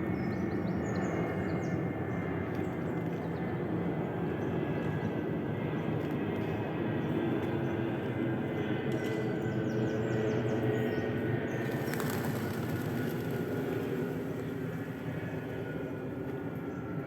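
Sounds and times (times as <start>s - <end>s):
airliner engine rumble overhead: 0.0s - 17.0s.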